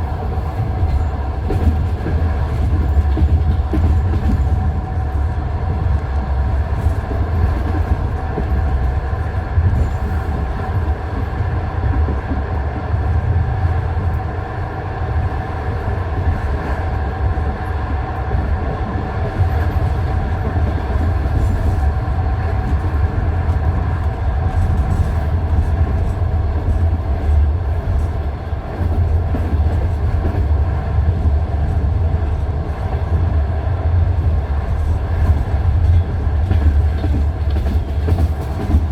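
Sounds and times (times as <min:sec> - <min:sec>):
train carriage rumble: 0:00.0 - 0:38.9.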